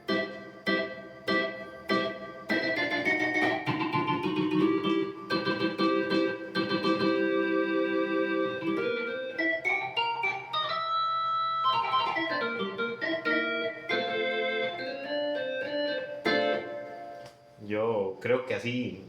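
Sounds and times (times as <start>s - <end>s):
organ melody over chords: 0.0s - 17.6s.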